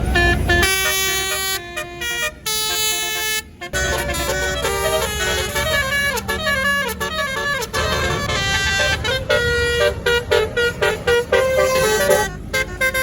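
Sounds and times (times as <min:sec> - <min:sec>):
bus engine rumble: 0:00.0 - 0:13.0
bus horn playing a melody: 0:00.0 - 0:13.0.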